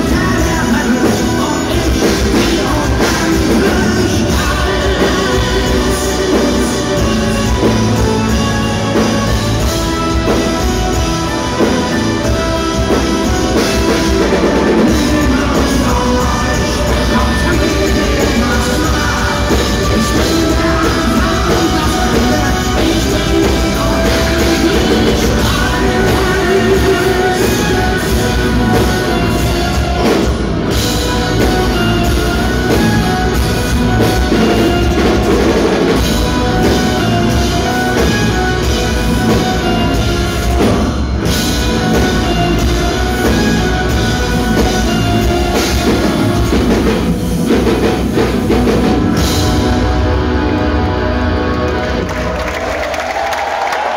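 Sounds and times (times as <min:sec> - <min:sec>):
person singing: 0:00.0 - 0:52.4
violin: 0:00.0 - 0:52.4
electric guitars and bass: 0:00.0 - 0:53.9
heavy rock drums: 0:00.0 - 0:53.9.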